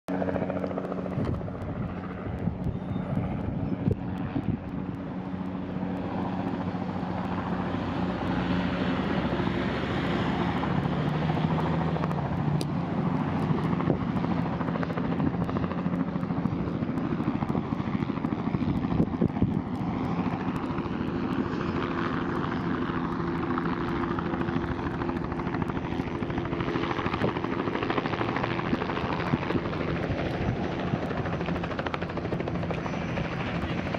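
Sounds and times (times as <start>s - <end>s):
helicopter rotor and engine drone: 0.1s - 33.9s.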